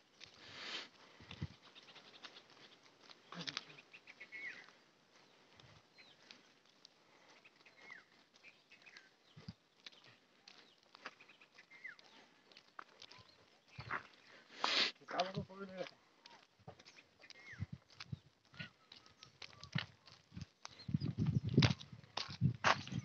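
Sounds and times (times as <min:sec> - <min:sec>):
faint birds chirping: 0:00.0 - 0:21.9.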